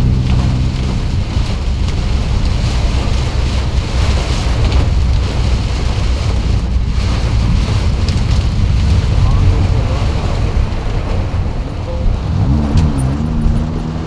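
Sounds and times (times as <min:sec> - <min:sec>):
heavy rain hissing: 0:00.0 - 0:14.0
wind buffeting microphone: 0:00.0 - 0:14.0.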